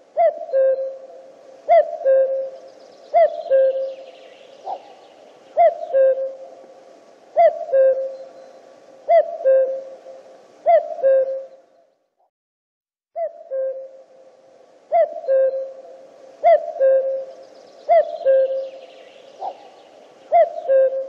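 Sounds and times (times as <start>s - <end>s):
cuckoo calling: 0.0s - 6.7s, 7.3s - 11.9s, 13.2s - 14.3s, 14.9s - 21.0s.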